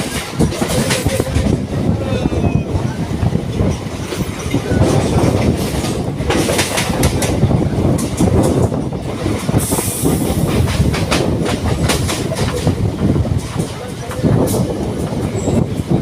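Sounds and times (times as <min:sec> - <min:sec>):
wheels clacking over rail joints: 0:00.0 - 0:01.8, 0:03.5 - 0:16.0
train rumbling: 0:00.0 - 0:16.0.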